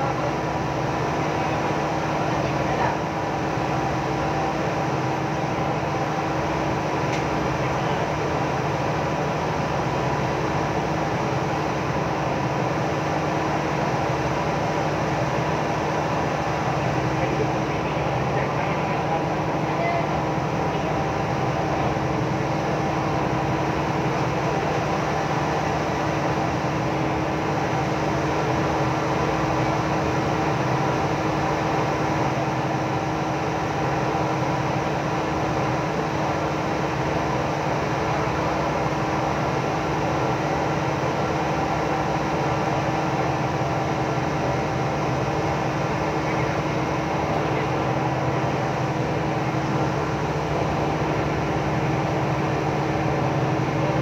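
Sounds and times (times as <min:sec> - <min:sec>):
boat machinery droning: 0:00.0 - 0:54.0.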